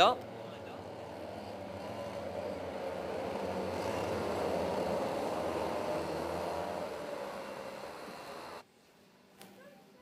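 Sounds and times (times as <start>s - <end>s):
kart engines running: 0.0s - 8.6s.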